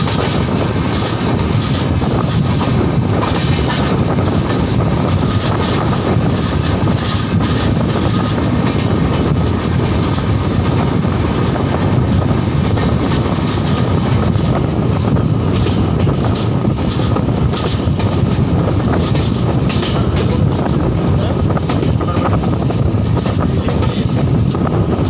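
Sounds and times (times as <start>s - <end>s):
train wheels rumbling on track: 0.0s - 25.0s
wheels clicking over rails: 0.0s - 25.0s.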